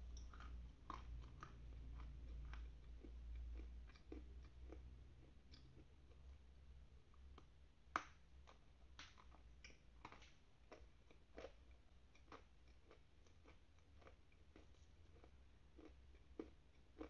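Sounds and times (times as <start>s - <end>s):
crunching and chewing clay: 0.0s - 17.0s.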